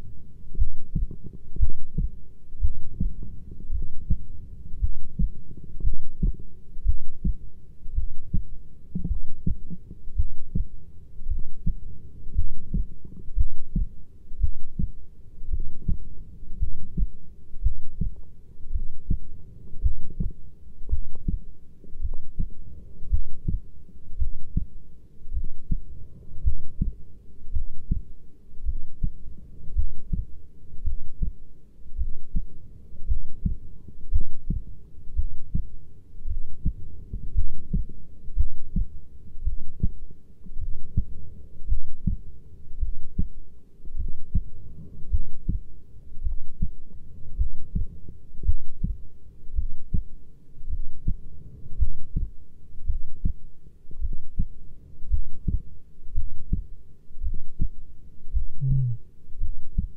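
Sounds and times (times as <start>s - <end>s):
heartbeat thumps: 0.0s - 53.4s, 54.0s - 59.9s.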